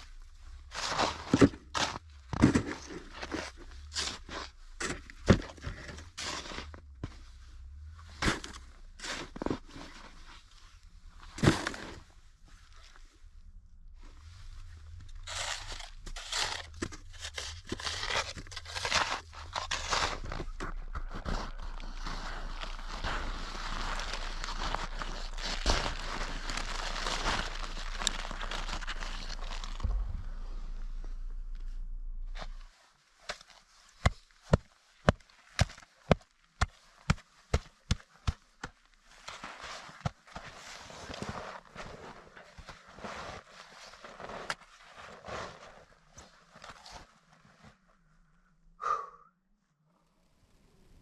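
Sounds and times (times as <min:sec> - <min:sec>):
snow crunching and scraping: 0:00.0 - 0:13.3, 0:13.9 - 0:47.8.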